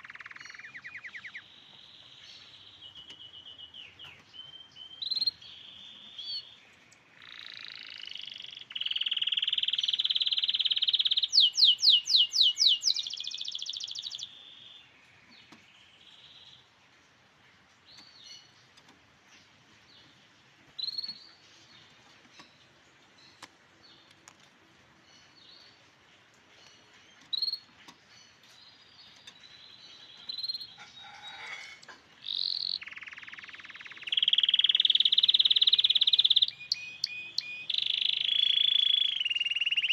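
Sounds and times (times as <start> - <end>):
canary singing trills and chirps: 0.0 - 16.7, 17.9 - 24.2, 25.0 - 39.9.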